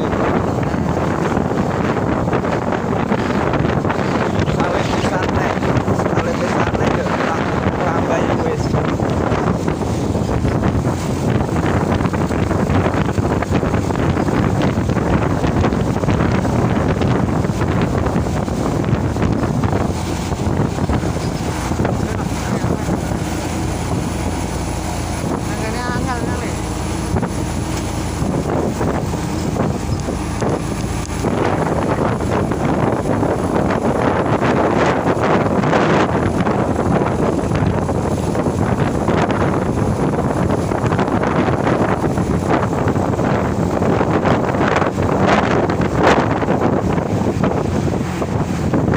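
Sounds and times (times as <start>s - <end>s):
truck engine running: 0.0s - 48.9s
wind buffeting microphone: 0.0s - 48.9s.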